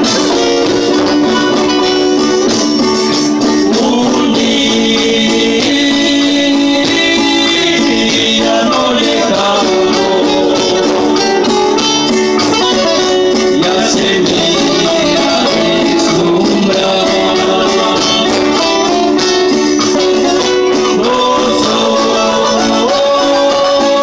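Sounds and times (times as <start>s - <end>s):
acoustic guitars strumming: 0.0s - 24.0s
keyboard: 0.0s - 24.0s
voices singing: 3.3s - 24.0s.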